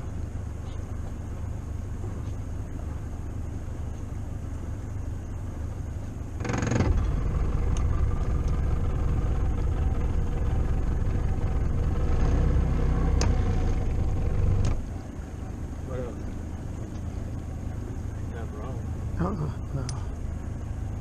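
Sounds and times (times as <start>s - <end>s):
boat motor rumbling: 0.0s - 21.0s.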